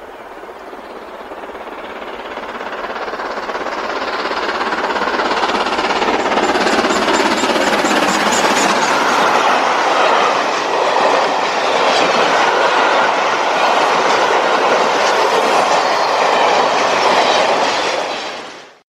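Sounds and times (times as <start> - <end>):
train coaches passing at speed: 0.0 - 18.8.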